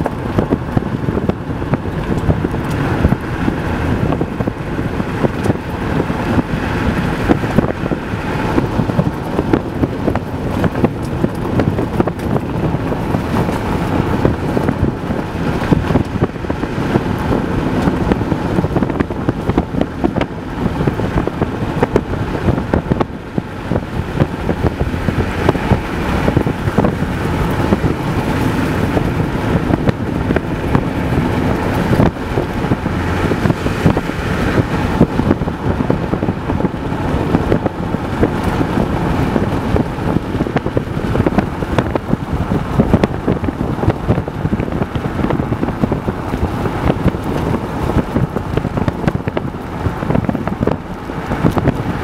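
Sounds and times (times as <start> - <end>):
car road and engine noise: 0.0 - 52.0
wind buffeting microphone: 0.0 - 52.0.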